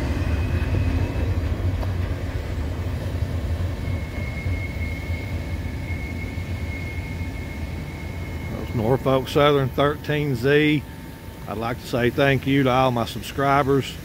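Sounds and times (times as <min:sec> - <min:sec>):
freight train cars rumbling: 0:00.0 - 0:14.0.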